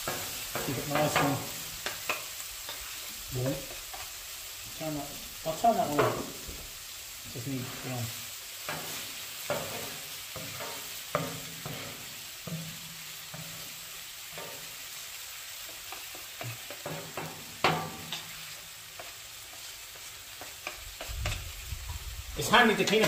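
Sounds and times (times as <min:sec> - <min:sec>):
spatula scraping a griddle: 0:00.0 - 0:04.2, 0:07.5 - 0:14.9, 0:15.7 - 0:23.0
food sizzling on a griddle: 0:00.0 - 0:23.0.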